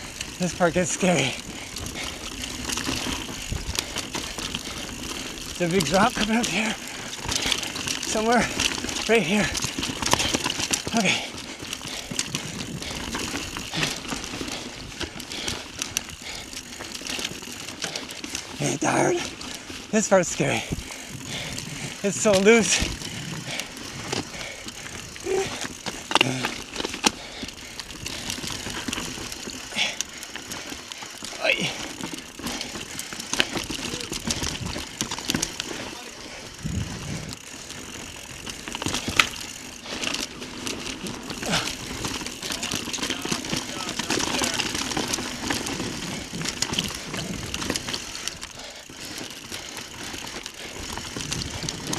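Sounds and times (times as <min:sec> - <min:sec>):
bike rattling clicks and knocks: 0:00.0 - 0:51.9
bike tyres crunching over dirt: 0:00.0 - 0:51.9.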